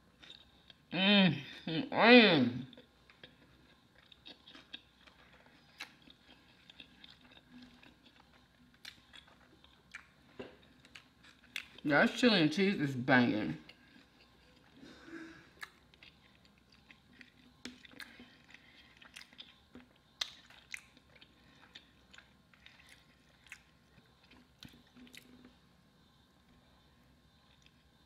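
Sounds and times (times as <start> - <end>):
chewing hot dog: 0.0 - 0.9, 2.6 - 11.9, 13.6 - 28.0.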